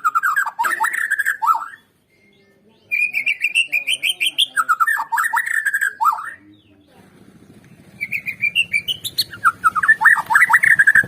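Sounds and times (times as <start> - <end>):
bird singing fast song phrase: 0.0 - 11.0.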